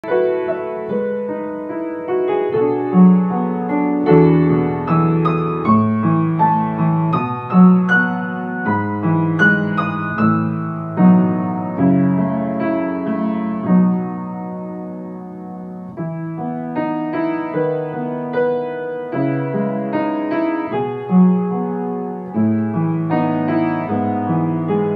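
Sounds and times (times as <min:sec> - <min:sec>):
calm piano music: 0:00.0 - 0:24.9.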